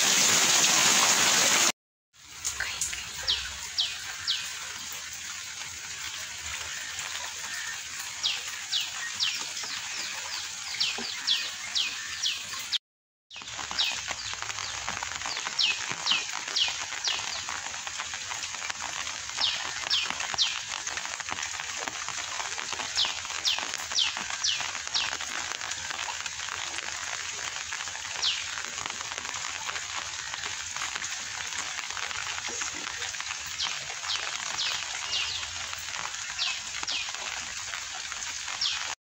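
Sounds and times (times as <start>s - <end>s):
rain falling on water: 0.0s - 39.0s.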